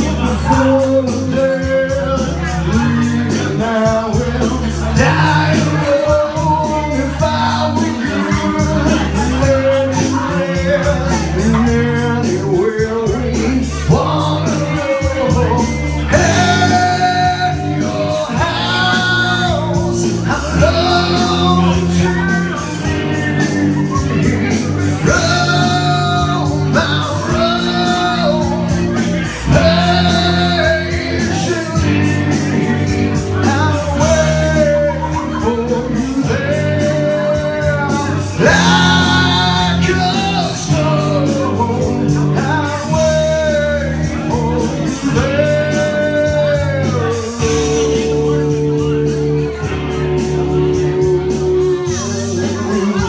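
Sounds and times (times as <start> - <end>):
amplified backing music with bass: 0.0 - 53.0
person singing into a microphone: 0.0 - 53.0.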